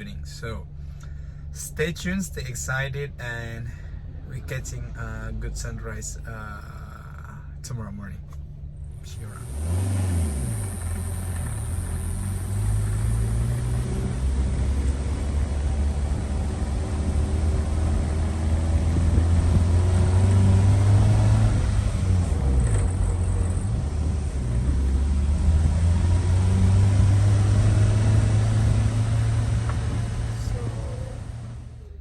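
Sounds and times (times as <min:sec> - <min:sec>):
car engine droning: 0:00.0 - 0:32.0
road noise: 0:00.0 - 0:32.0.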